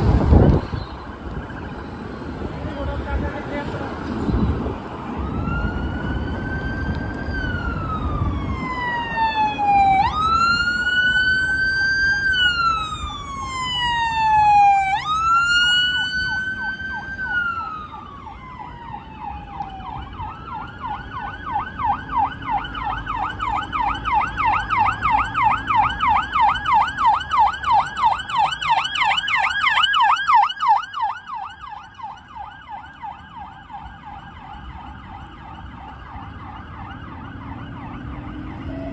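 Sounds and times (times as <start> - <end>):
siren wailing: 0.5 - 2.6, 5.0 - 38.9
siren yelping: 5.0 - 38.9.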